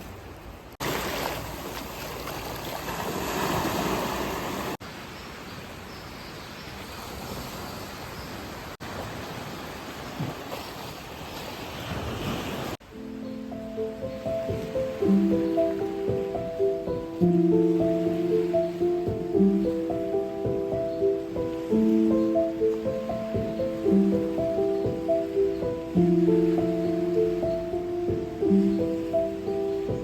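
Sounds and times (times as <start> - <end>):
steady rushing hiss outdoors: 0.0 - 10.2, 12.2 - 30.0.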